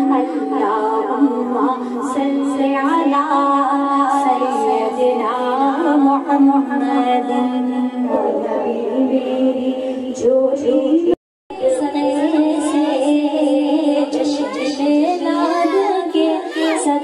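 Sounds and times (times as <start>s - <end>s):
women chanting unaccompanied: 0.0s - 17.0s.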